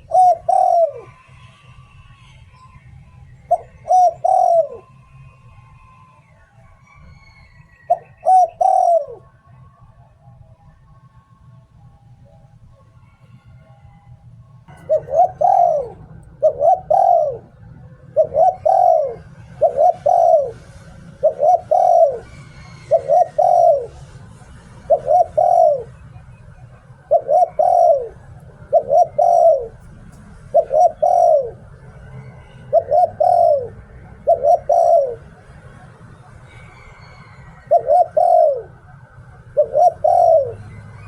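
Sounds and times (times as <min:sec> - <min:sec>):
dove cooing: 0:00.0 - 0:10.0, 0:14.7 - 0:41.0.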